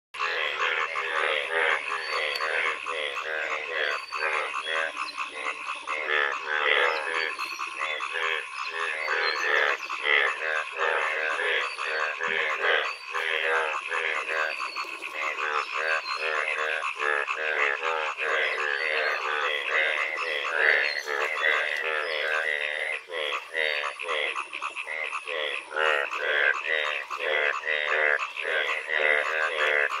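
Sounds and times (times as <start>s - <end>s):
chorus of frogs croaking: 0.2s - 30.0s.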